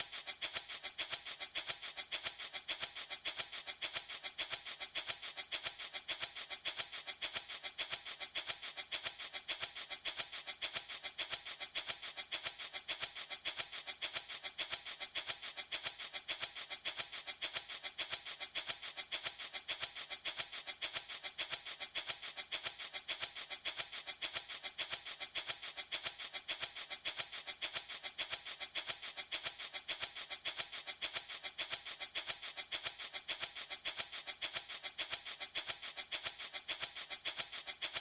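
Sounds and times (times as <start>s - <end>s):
wooden baby rattle shaken: 0.0s - 38.0s.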